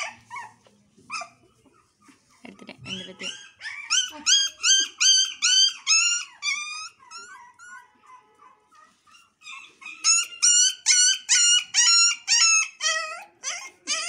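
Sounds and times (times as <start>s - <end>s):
puppy yelping: 0.0s - 14.0s.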